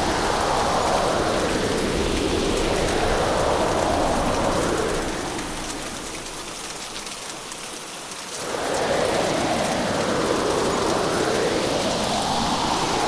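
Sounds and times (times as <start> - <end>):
heavy rain rushing: 0.0 - 13.0.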